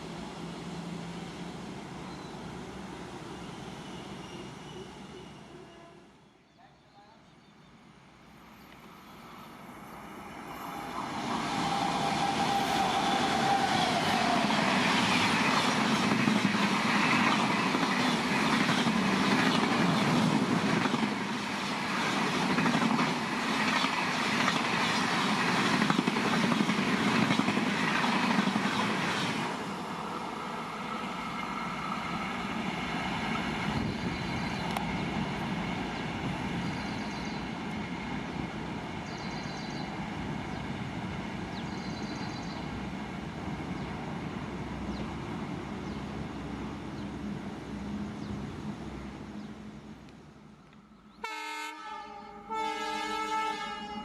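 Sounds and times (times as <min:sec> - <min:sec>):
train passing at high speed: 0:00.0 - 0:06.2, 0:07.8 - 0:54.0.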